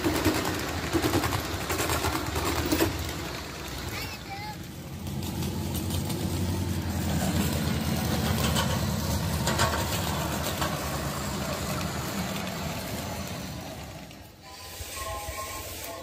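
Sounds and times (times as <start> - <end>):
miniature locomotive engine running: 0.0 - 16.0.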